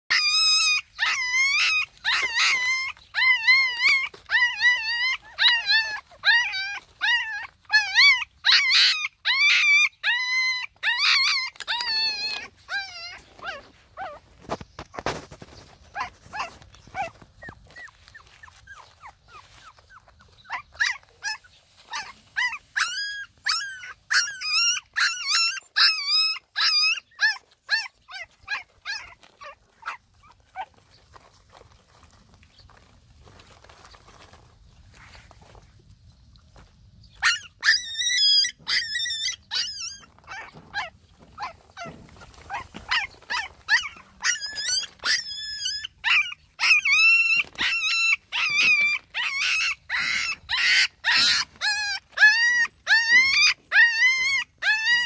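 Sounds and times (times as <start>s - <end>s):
puppies whining and crying: 0.1s - 55.0s.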